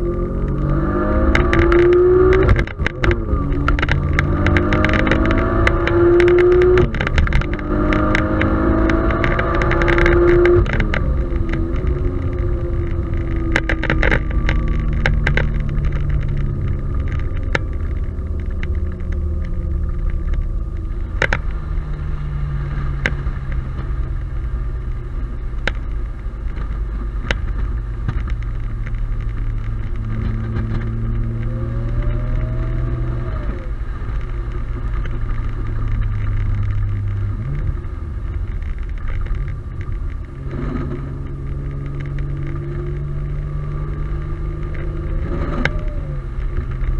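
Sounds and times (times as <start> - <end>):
car engine drone: 0.0 - 46.9
road noise: 0.0 - 46.9.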